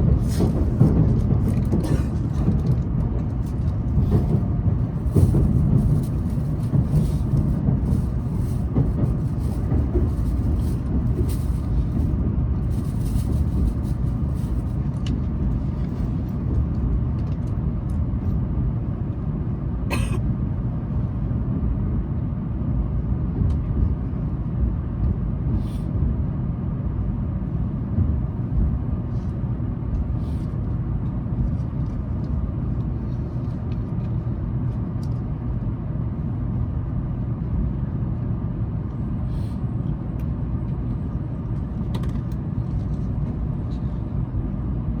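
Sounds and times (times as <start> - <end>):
train rumbling on track: 0.0 - 45.0.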